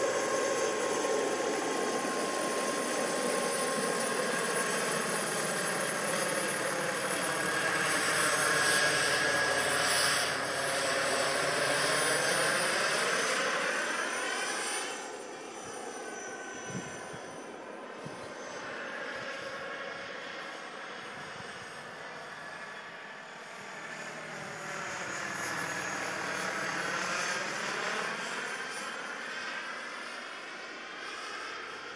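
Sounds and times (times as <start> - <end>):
model helicopter motor whine: 0.0 - 31.9.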